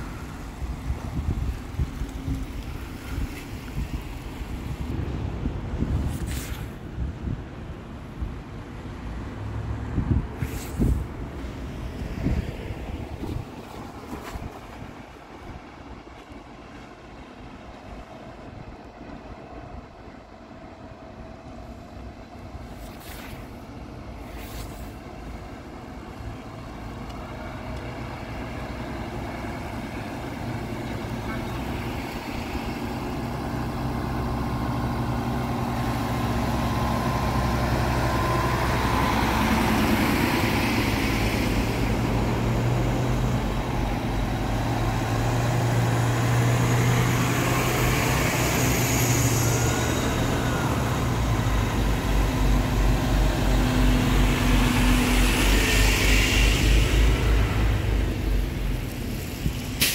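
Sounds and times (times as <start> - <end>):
fire engines driving past: 0.0 - 59.9
low throbbing truck engine: 0.0 - 59.9.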